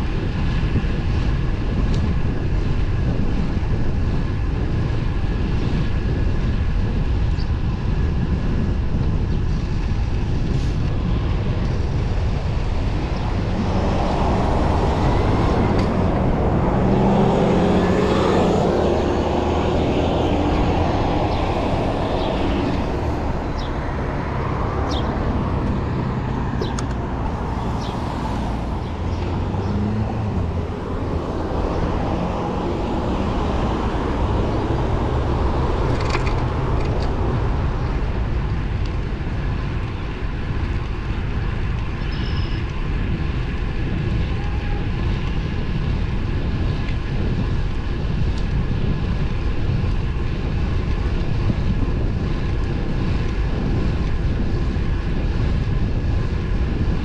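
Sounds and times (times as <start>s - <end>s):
motor traffic: 0.0s - 57.0s
wind on microphone: 0.0s - 57.0s.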